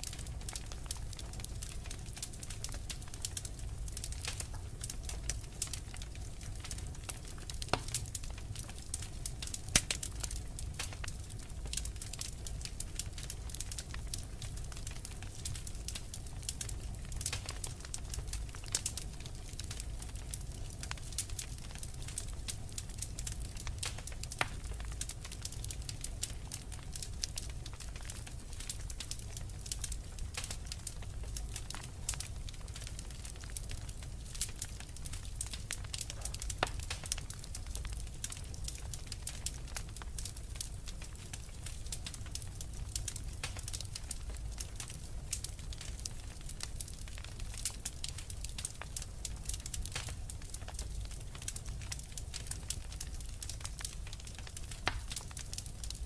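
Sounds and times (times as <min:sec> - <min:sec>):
fireplace fire crackling: 0:00.0 - 0:56.0
low fire rumble: 0:00.0 - 0:56.0.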